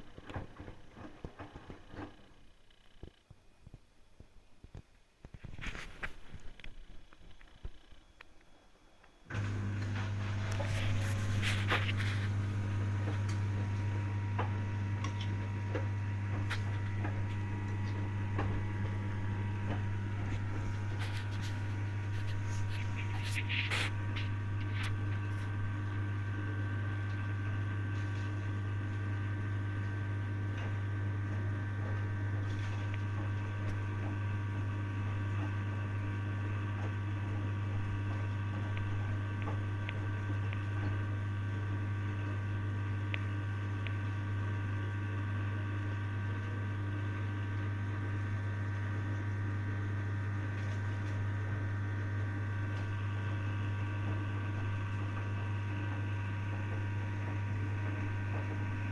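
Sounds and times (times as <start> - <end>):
washing machine humming: 9.2 - 58.9.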